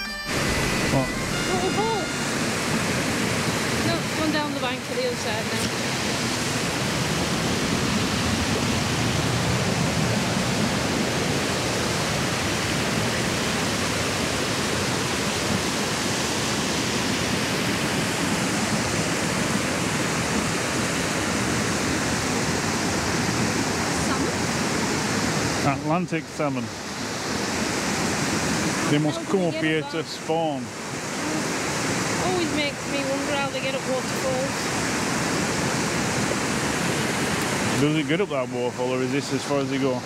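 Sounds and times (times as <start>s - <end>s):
river and waterfall rushing: 0.0s - 40.0s.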